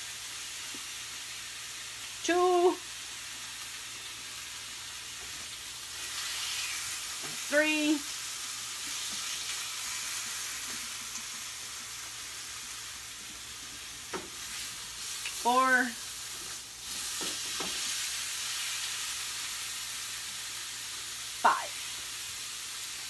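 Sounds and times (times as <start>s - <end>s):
roast sizzling in a pot: 0.0s - 23.0s.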